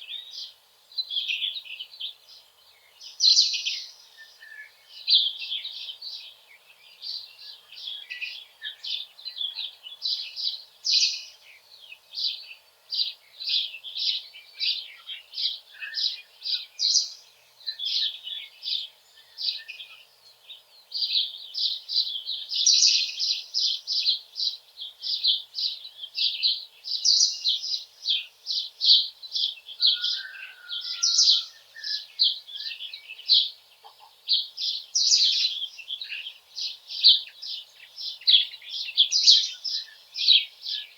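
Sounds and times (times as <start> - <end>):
small birds chirping: 0.0 - 40.9
wind in leaves: 0.0 - 40.9.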